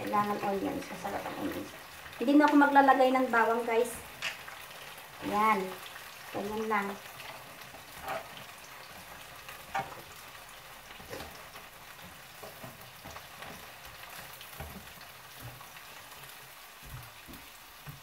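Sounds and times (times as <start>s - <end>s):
onions sizzling in a frying pan: 0.0s - 18.0s.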